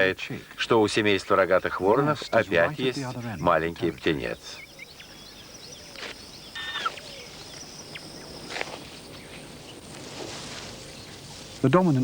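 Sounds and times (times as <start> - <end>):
bird chirp: 0.8 - 12.0.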